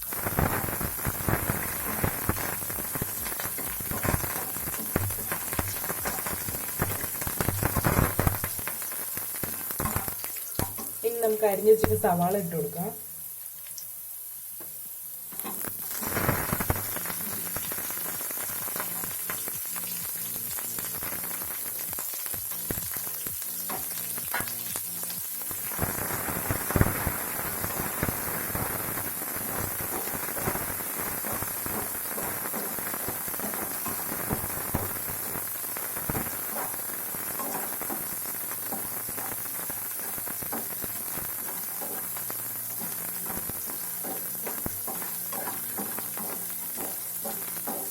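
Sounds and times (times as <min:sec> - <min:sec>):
onion sizzling in hot oil: 0:00.0 - 0:47.9.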